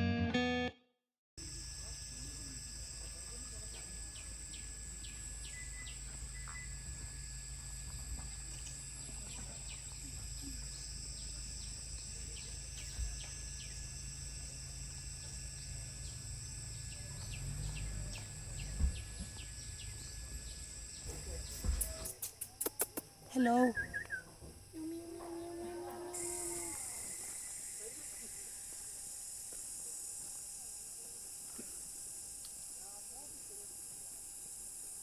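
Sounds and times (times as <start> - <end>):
insects droning: 1.4 - 35.0.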